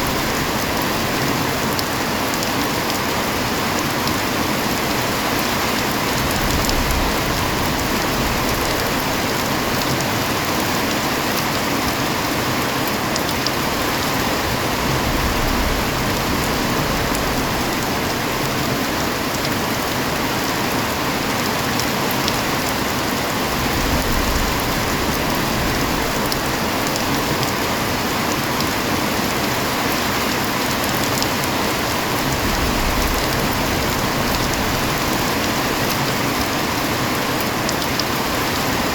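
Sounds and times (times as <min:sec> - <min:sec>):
heavy rain falling: 0:00.0 - 0:38.9
raindrops ticking on a surface: 0:00.0 - 0:38.9.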